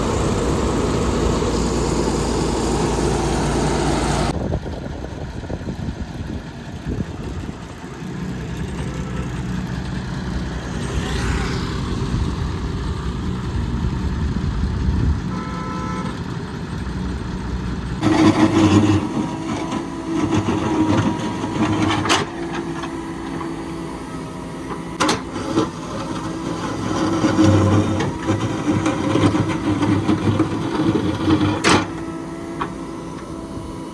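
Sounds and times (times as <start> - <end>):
heavy machinery engines running: 0.0 - 33.9.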